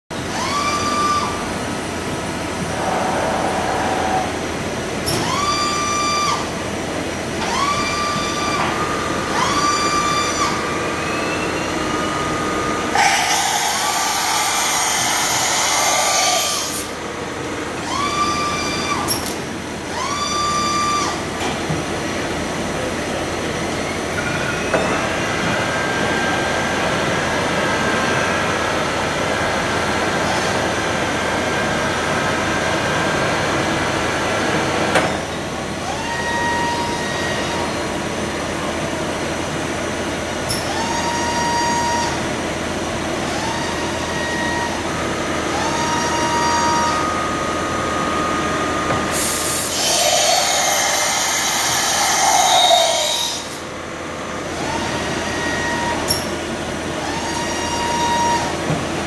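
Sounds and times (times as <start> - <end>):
milling machine electric whines: 0.2 - 59.0.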